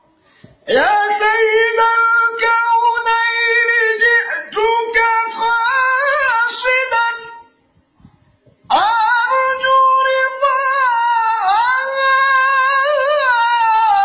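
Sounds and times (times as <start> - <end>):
man singing unaccompanied: 0.6 - 7.6, 8.7 - 14.0.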